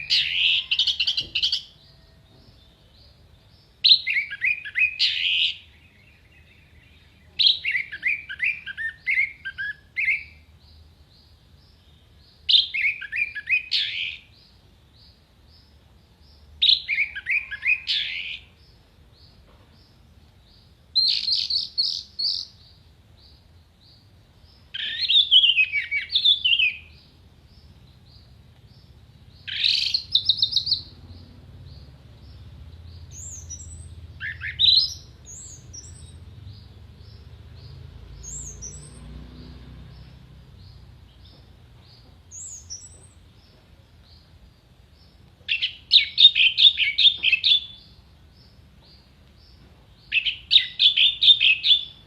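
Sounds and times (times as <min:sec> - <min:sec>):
thrush singing trills and whistles: 0:00.0 - 0:19.4, 0:20.5 - 0:39.2, 0:45.0 - 0:52.0.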